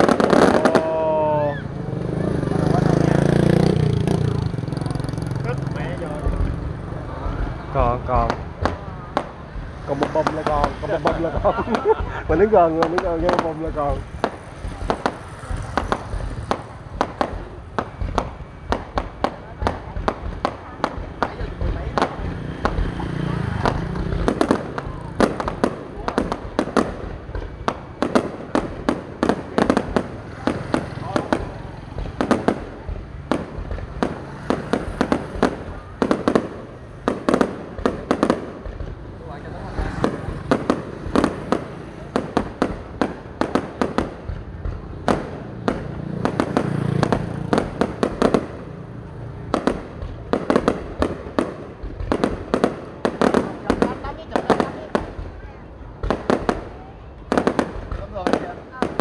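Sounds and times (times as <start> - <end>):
fireworks bursting bangs: 0.0 - 59.0.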